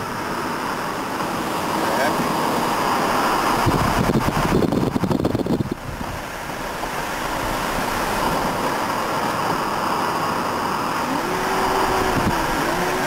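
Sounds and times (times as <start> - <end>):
wind and road noise in car: 0.0 - 13.0.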